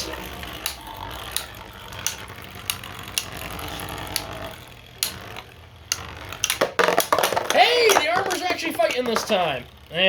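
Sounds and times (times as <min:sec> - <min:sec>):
spinning tops colliding clicks: 0:00.0 - 0:09.6
spinning tops whirring: 0:00.0 - 0:10.0.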